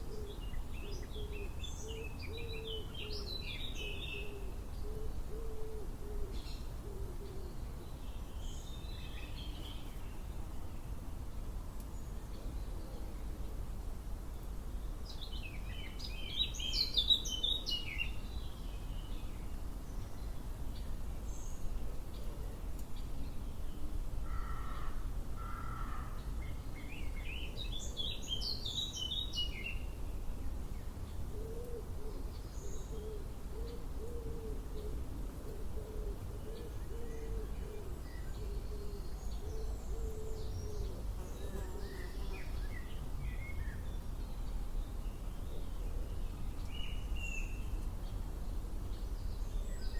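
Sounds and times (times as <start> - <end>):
songbird song: 0.0 - 49.9.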